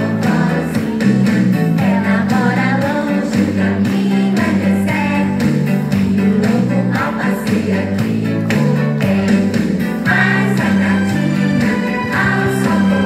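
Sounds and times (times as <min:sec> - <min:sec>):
bass line: 0:00.0 - 0:13.0
song with singing: 0:00.0 - 0:13.0.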